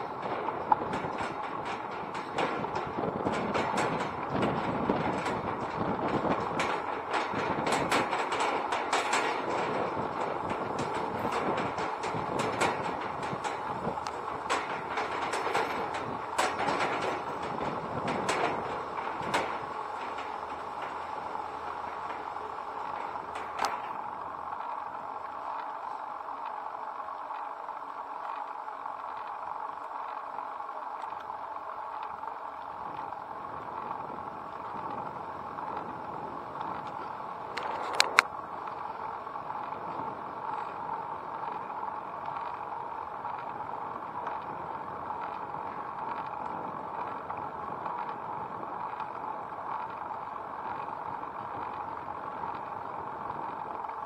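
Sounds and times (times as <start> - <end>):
bicycle rolling on asphalt: 0.0 - 54.0.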